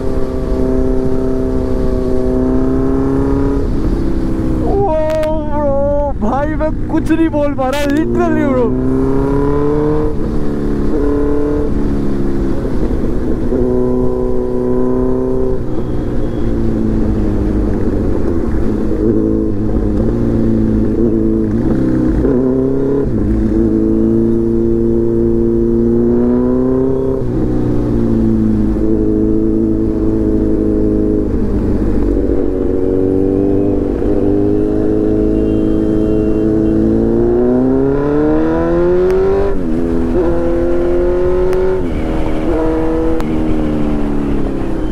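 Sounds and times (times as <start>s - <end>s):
motorcycle engine revving: 0.0s - 6.9s, 7.6s - 44.9s.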